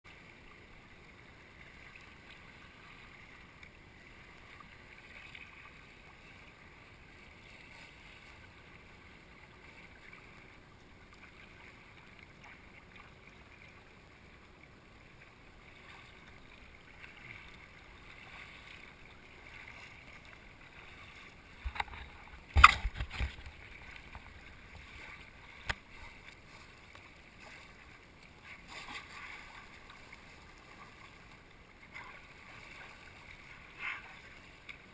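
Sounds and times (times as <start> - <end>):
water lapping against kayak: 0.0 - 34.9.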